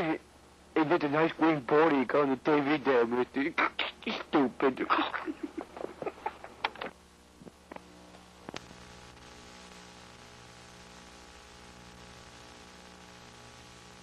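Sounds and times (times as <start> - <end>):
low electrical hum and hiss: 0.0 - 14.0.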